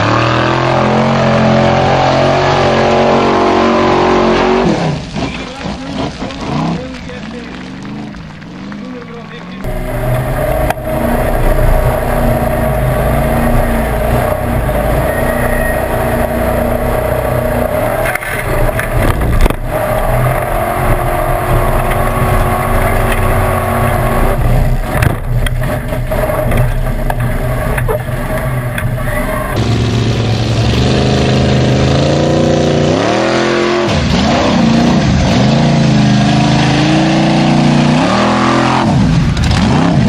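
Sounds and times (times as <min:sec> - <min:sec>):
vehicle engine running: 0:05.0 - 0:38.0.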